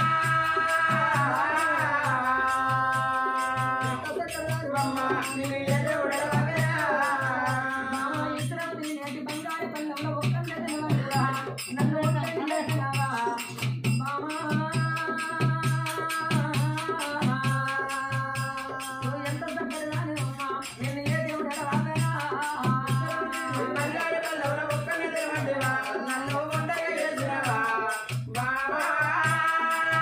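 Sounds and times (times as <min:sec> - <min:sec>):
rattling jingling percussion: 0:00.0 - 0:30.0
steady drum beat: 0:00.0 - 0:30.0.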